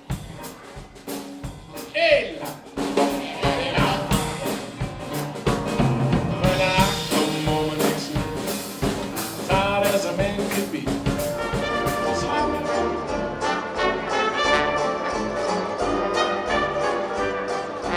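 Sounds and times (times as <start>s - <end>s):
drum kit beat: 0.0s - 17.9s
jazz band playing: 0.0s - 17.9s.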